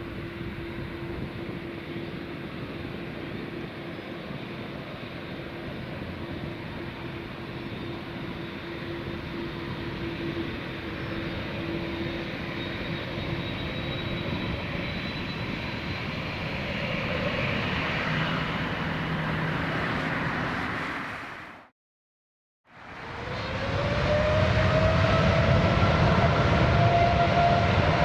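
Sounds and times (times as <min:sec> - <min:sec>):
jet engines running: 0:00.0 - 0:21.1, 0:22.9 - 0:28.0.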